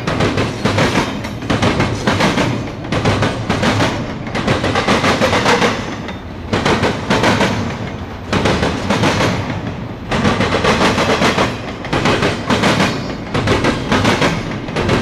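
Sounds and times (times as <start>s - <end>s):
train rolling rumble: 0.0s - 15.0s
train wheels clacking over track: 0.0s - 15.0s.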